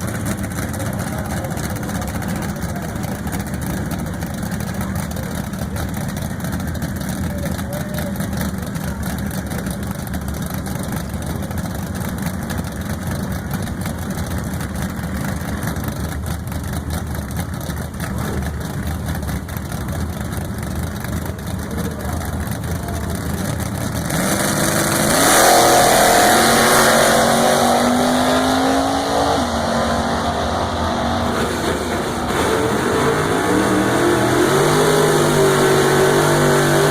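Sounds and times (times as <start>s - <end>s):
car engine revving up: 0.0s - 36.9s
drag car engines rumbling: 0.0s - 36.9s.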